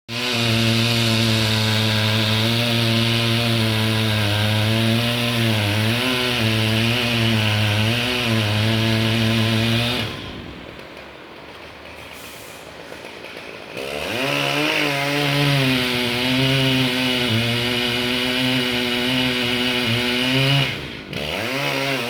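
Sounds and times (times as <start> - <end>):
chainsaw cutting wood: 0.1 - 12.0, 13.0 - 22.0.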